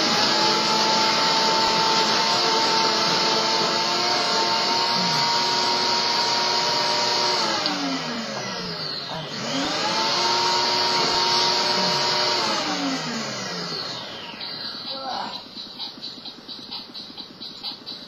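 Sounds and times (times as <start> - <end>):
appliance motor whining: 0.0 - 16.0.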